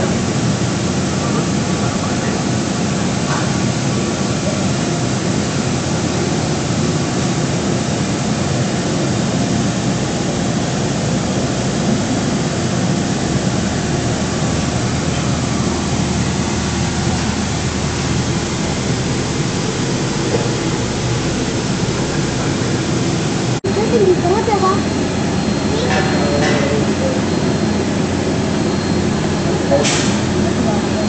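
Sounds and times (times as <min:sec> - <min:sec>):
jet engines roaring: 0:00.0 - 0:31.0
faint steady whine: 0:04.0 - 0:31.0.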